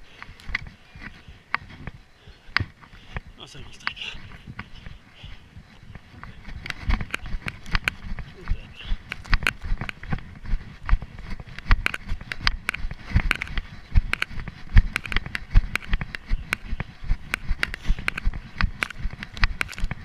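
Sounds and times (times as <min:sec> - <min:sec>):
running footsteps on forest floor: 0:00.0 - 0:20.0.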